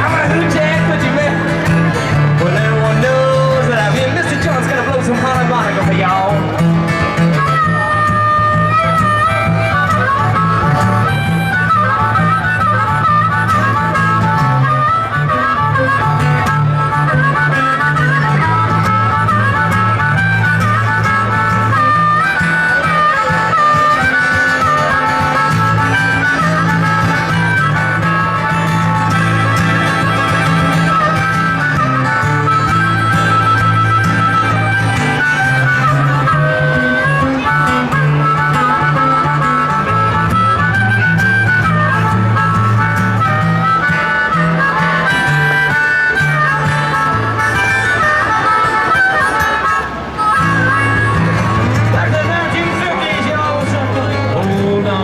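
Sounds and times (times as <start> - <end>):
blues harmonica solo: 0.0 - 55.0
strummed guitar: 0.0 - 55.0
walking bass line: 0.0 - 55.0.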